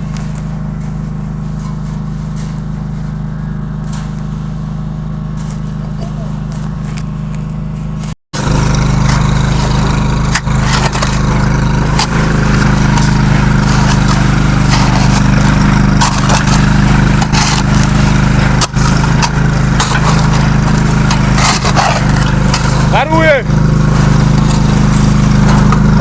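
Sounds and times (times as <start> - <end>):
concrete mix scraping and knocking: 0.0 - 26.0
concrete mixer motor hum: 0.0 - 26.0.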